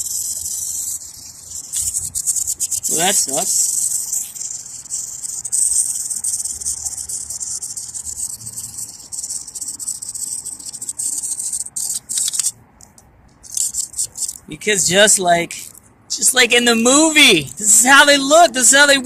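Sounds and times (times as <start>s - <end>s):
wind-up toy clockwork buzzing: 0.0s - 19.0s.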